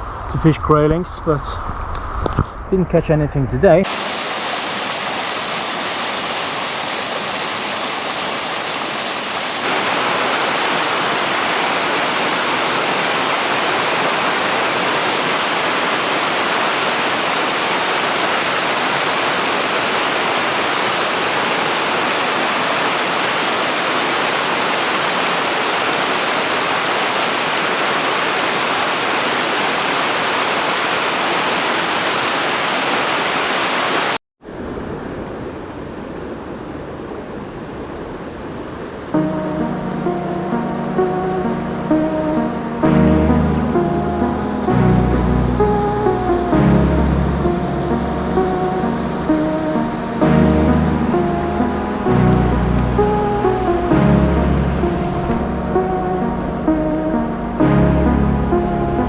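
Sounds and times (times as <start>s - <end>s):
stream rushing water: 3.8s - 59.0s.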